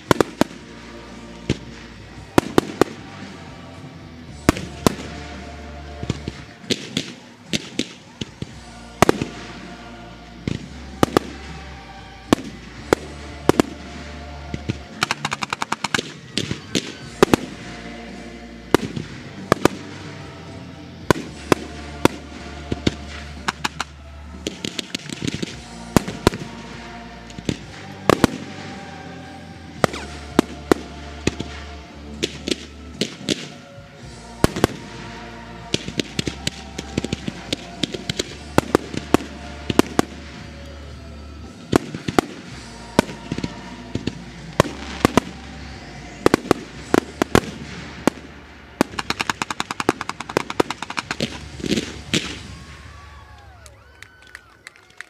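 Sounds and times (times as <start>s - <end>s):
fireworks bangs: 0.0s - 54.3s
music playing: 0.0s - 55.0s.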